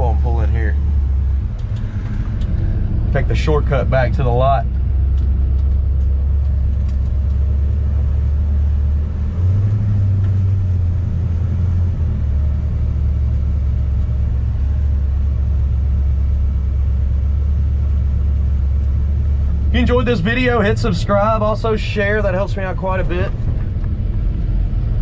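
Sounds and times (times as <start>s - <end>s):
pickup truck engine rumbling: 0.0s - 25.0s.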